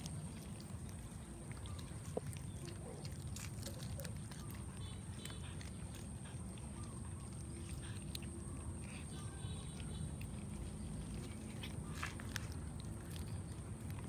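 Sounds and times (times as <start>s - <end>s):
cat chewing: 0.0s - 14.0s
low background rumble: 0.0s - 14.0s.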